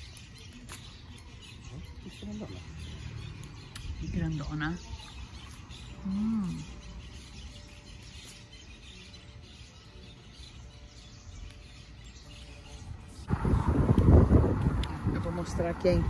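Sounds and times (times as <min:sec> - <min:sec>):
faint bird chirps: 0:00.0 - 0:13.3.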